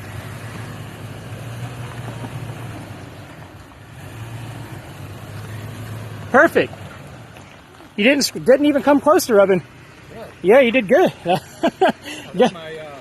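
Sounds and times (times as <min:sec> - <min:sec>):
truck engine running at low speed: 0:00.0 - 0:13.0.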